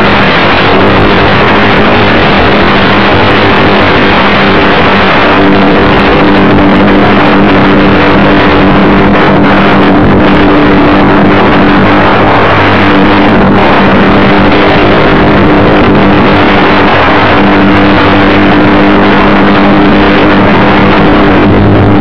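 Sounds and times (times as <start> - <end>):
loud wind rush: 0.0 - 22.0
model airplane motor droning: 0.0 - 22.0.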